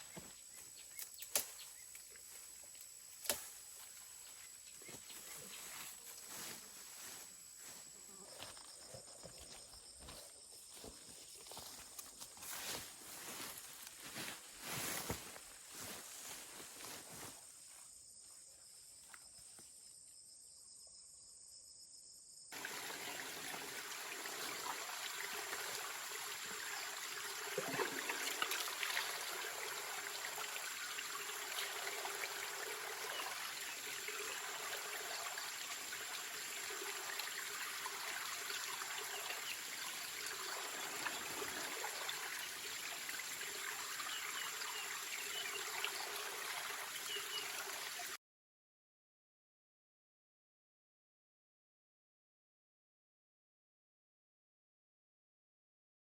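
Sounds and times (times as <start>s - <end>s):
insects chirping: 0.0s - 48.0s.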